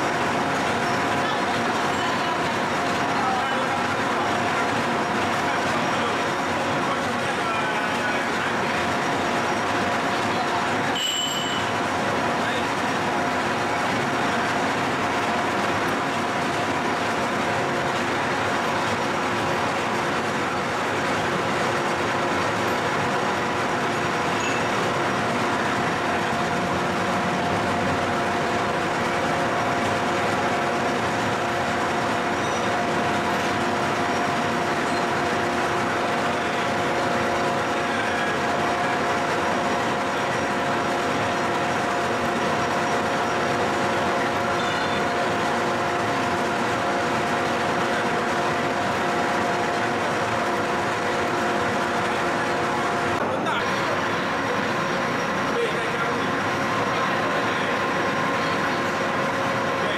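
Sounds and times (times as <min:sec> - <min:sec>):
milling machine whining: 0:00.0 - 0:59.9.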